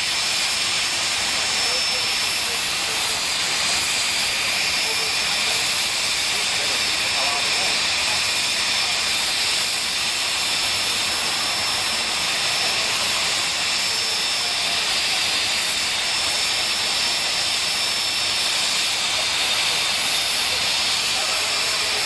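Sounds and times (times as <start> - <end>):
jet turbine engine whining: 0.0 - 22.0.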